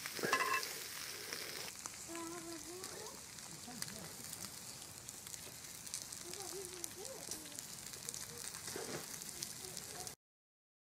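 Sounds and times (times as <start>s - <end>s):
bacon sizzling in a skillet: 0.0s - 10.2s.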